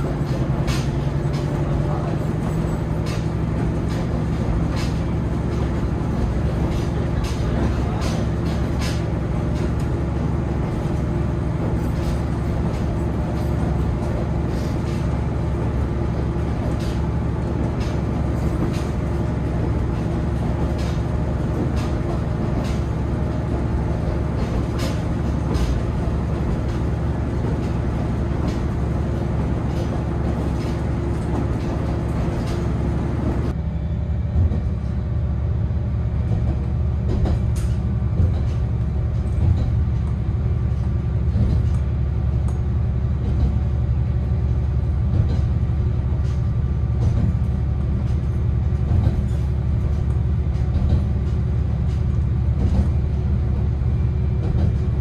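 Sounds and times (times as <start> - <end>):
wheels clicking over rail joints: 0.0 - 33.6, 36.3 - 55.0
railcar engine drone: 0.0 - 55.0.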